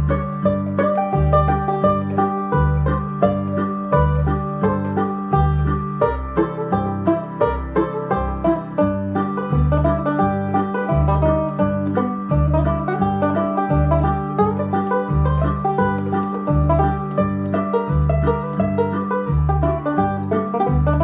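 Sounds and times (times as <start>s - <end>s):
banjo picking: 0.0s - 21.0s
bass accompaniment: 0.0s - 21.0s.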